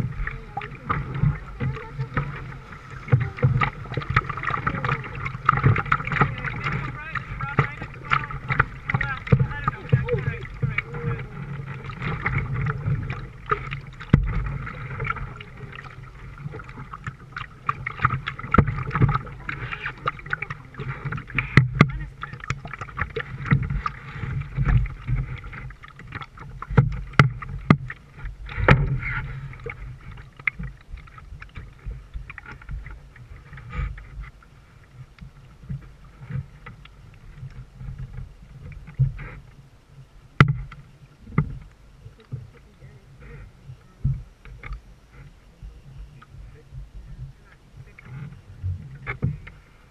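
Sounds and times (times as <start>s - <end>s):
paddle pulling through water: 0.0s - 49.9s
water lapping along hull: 0.0s - 49.9s.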